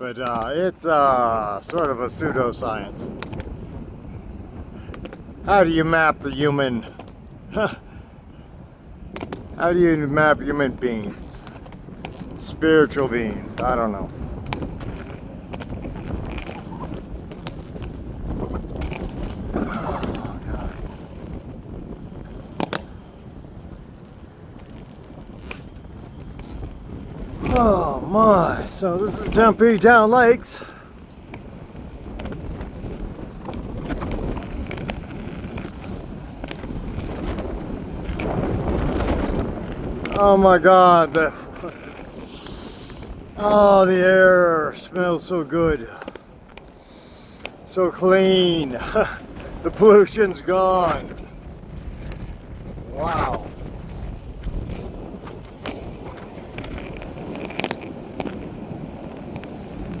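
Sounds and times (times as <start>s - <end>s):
roller-skate wheels on pavement: 0.0s - 60.0s
wind buffeting microphone: 0.0s - 60.0s.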